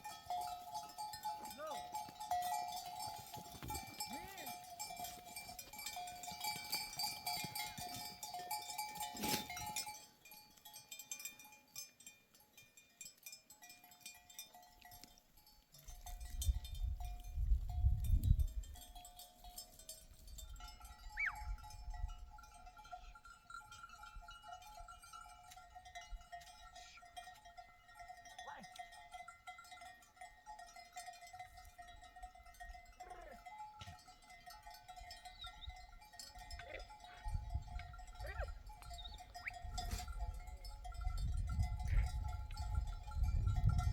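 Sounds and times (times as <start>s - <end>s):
sheep bells ringing and clinking: 0.0s - 43.9s.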